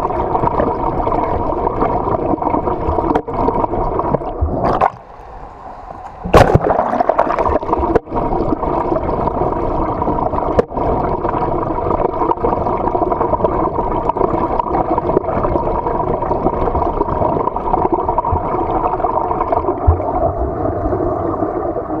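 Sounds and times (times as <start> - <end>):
water churning underwater: 0.0 - 22.0.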